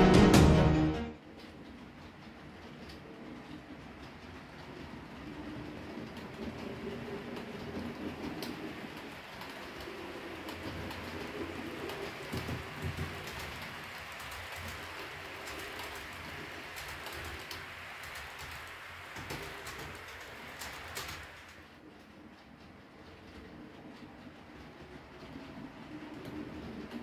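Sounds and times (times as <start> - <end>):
model train rolling on track: 0.0 - 27.0
wheels clicking over rail joints: 1.2 - 27.0.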